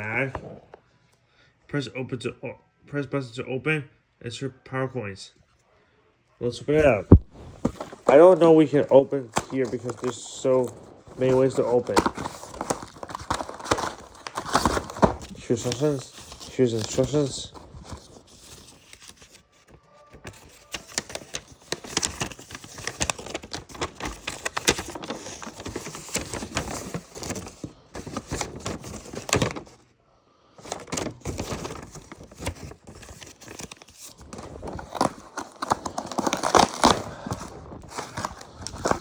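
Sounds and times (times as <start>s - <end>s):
packaging crinkling and tearing: 6.8s - 29.8s, 30.6s - 39.0s.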